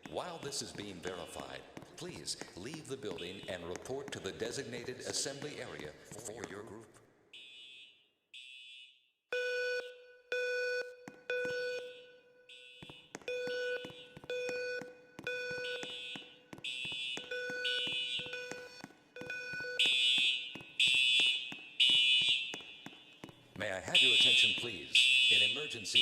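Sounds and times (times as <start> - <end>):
fire alarm sounders pulsing: 0.0 - 26.0.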